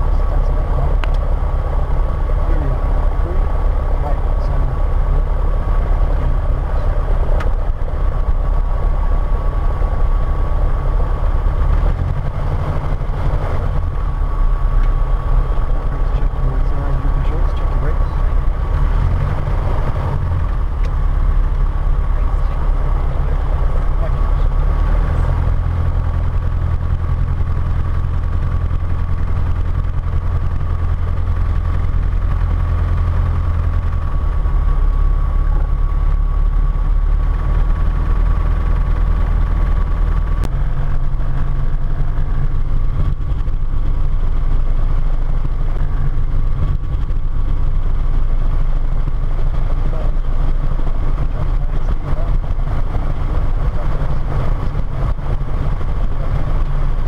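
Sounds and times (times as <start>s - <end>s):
aircraft engine and propeller drone: 0.0s - 57.0s.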